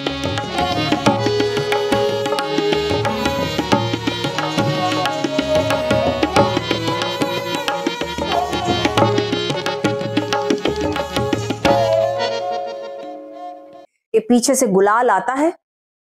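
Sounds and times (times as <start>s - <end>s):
held melody line: 0.0s - 13.9s
tabla playing: 0.0s - 13.9s.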